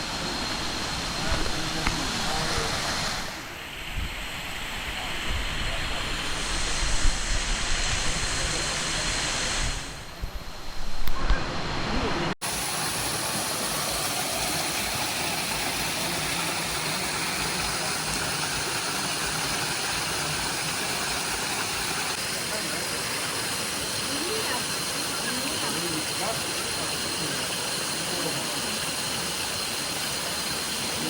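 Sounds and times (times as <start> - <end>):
waterfall hiss: 0.0 - 10.6, 12.4 - 31.0.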